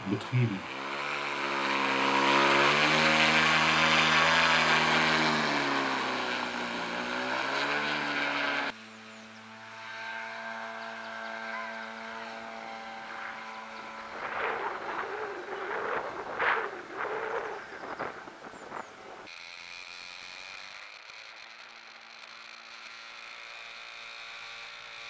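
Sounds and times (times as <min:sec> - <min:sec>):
model two-stroke engine running: 0:00.0 - 0:25.0.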